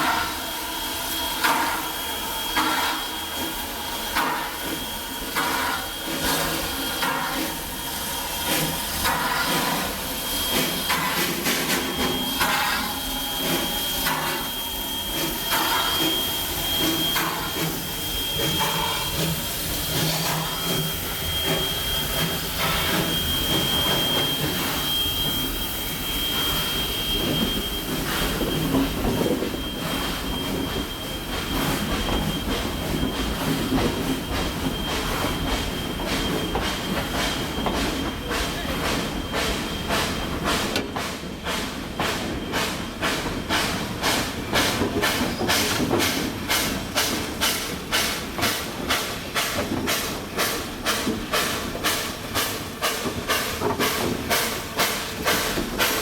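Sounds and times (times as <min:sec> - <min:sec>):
steam locomotives chuffing: 0:00.0 - 0:56.0
steel wheels squealing on rails: 0:00.0 - 0:56.0.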